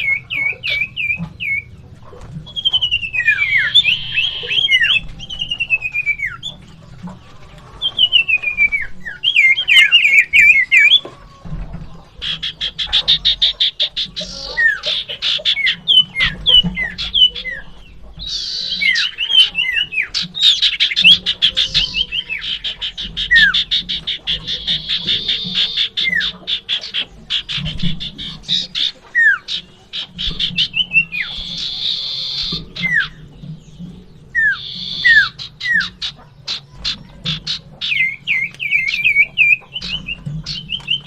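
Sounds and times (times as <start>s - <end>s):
descending bird whistles: 0.0s - 1.7s, 2.5s - 6.6s, 7.8s - 11.0s, 12.2s - 41.0s
fast rattling bird trills: 0.0s - 41.0s.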